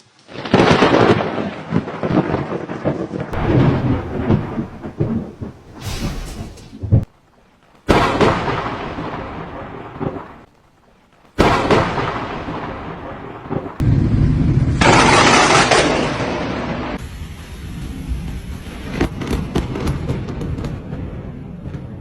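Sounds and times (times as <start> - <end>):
thunderclaps cracking and rumbling: 0.3 - 7.1, 7.9 - 10.5, 11.4 - 22.0.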